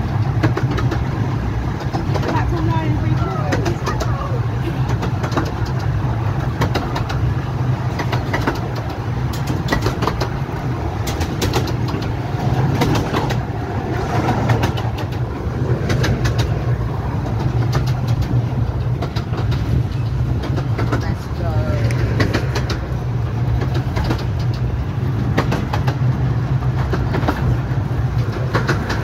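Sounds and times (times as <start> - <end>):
train rumble: 0.0 - 29.0
wheels clicking on rails: 0.0 - 29.0.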